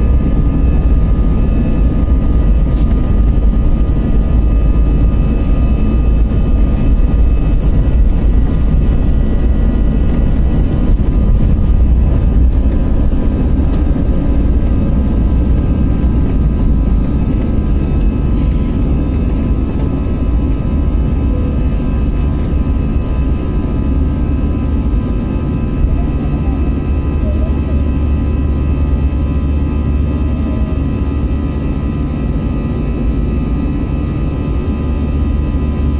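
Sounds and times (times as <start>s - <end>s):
jet engines at take-off thrust: 0.0s - 35.9s.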